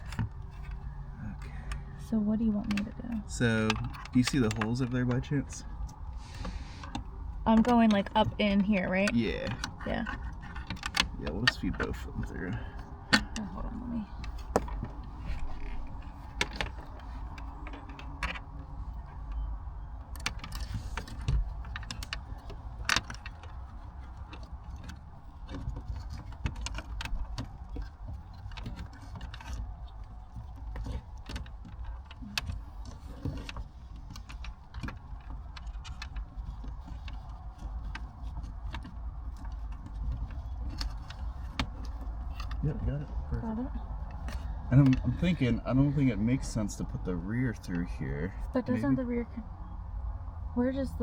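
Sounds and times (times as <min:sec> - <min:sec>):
rustling: 0:00.0 - 0:51.0
steady low rumble: 0:00.0 - 0:51.0.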